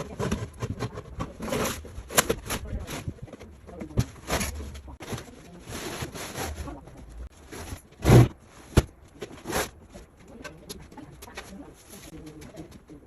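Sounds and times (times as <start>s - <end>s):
objects rubbing and scraping: 0.0s - 13.0s.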